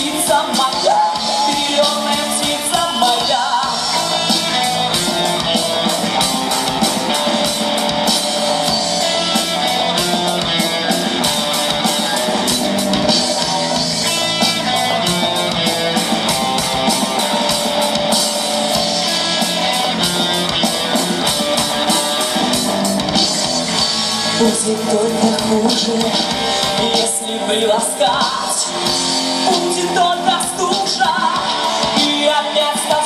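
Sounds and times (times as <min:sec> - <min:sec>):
drum kit beat: 0:00.0 - 0:33.0
electric guitar: 0:00.0 - 0:33.0.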